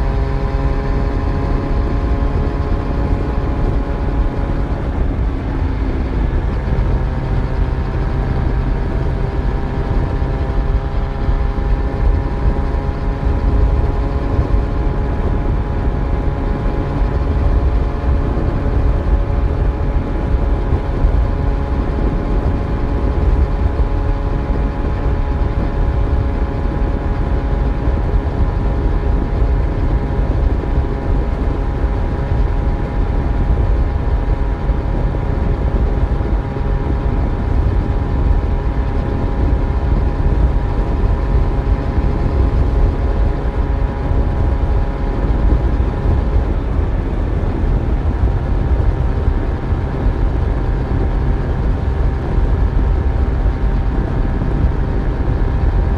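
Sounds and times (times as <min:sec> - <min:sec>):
heavy low rumble: 0:00.0 - 0:55.9
motorcycle engine running: 0:00.0 - 0:55.9.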